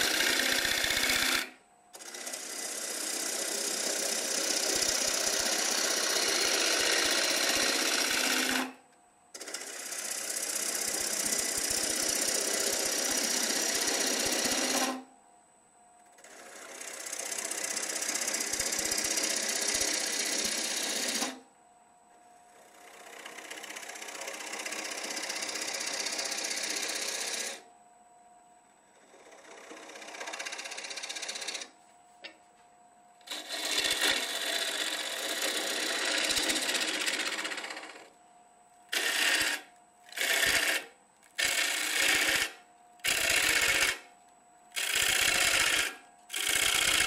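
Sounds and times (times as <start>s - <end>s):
gouge cutting wood on lathe: 0.0s - 8.8s, 9.4s - 15.0s, 16.2s - 21.4s, 22.6s - 27.6s, 29.0s - 31.7s, 33.3s - 38.1s, 38.9s - 44.0s, 44.8s - 47.0s
faint steady lathe whine: 0.0s - 47.0s.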